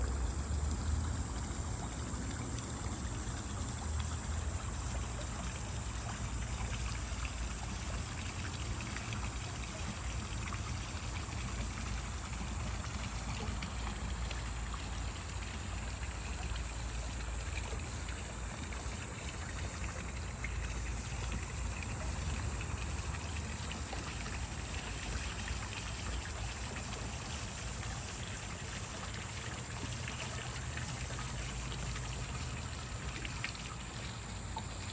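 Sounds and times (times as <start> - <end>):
water trickling and splashing: 0.0 - 34.9.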